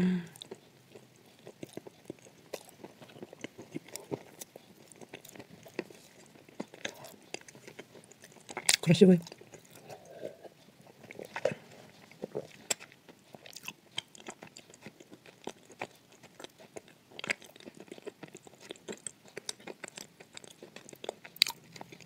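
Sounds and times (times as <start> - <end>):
crunchy chewing: 0.3 - 22.0.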